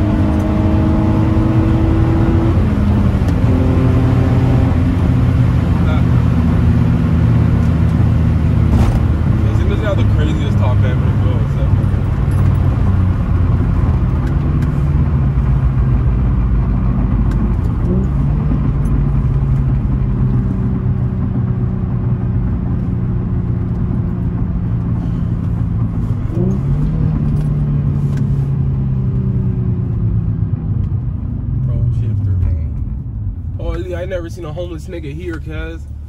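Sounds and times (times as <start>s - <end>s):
car engine heard from cabin: 0.0s - 36.0s.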